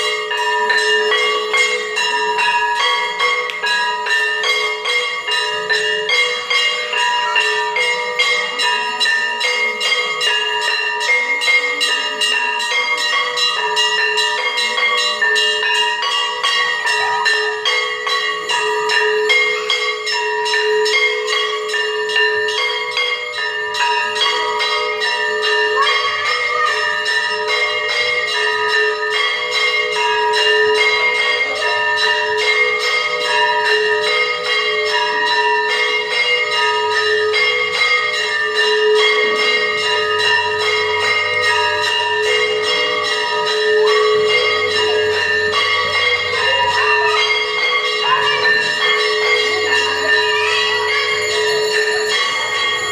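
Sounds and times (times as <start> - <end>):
temple bells ringing: 0.0 - 52.9.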